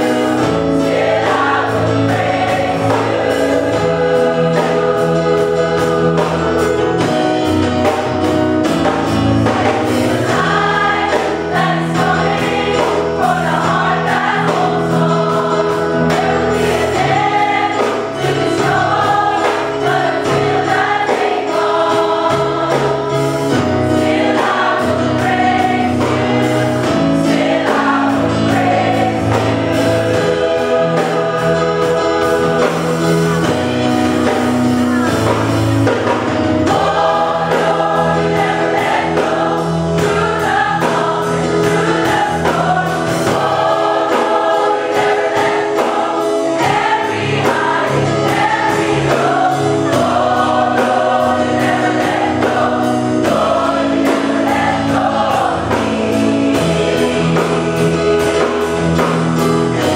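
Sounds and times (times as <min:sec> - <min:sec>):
mixed choir singing: 0:00.0 - 0:59.9.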